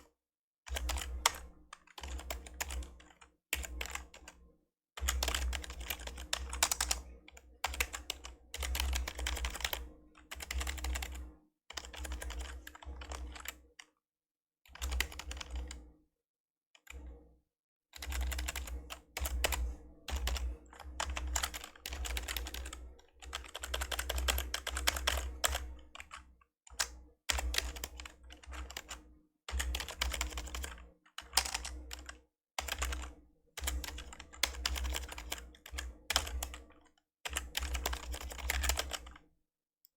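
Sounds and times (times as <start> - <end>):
computer keyboard typing: 0.7 - 4.4, 5.0 - 13.6, 14.7 - 15.8, 18.0 - 39.2.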